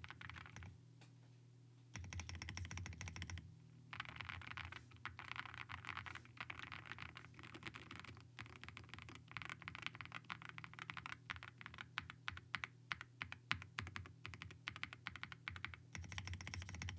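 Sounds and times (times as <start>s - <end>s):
mechanical keyboard typing: 0.0s - 0.7s, 2.0s - 16.9s.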